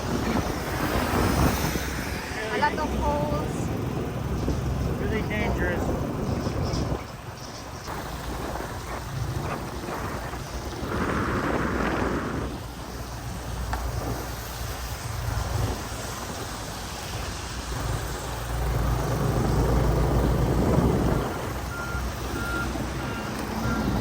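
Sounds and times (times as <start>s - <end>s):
motorbike engine and wind rumble: 0.0s - 24.0s
rain: 0.0s - 24.0s.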